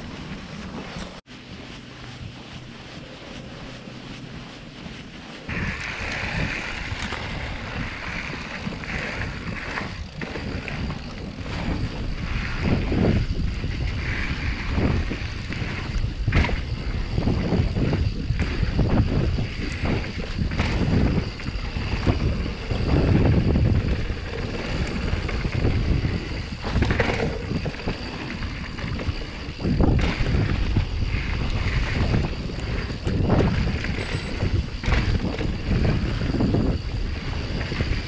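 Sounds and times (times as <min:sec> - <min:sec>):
wind buffeting microphone: 0:00.0 - 0:38.0
bike knocks and rattles: 0:05.5 - 0:38.0.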